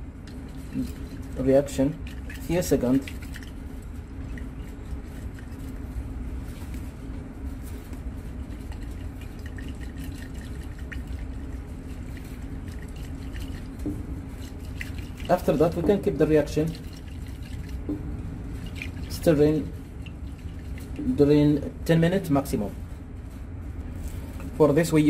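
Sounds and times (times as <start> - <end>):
steady low hum: 0.0 - 25.0
liquid sloshing in glass flask: 0.1 - 6.9, 7.5 - 21.3.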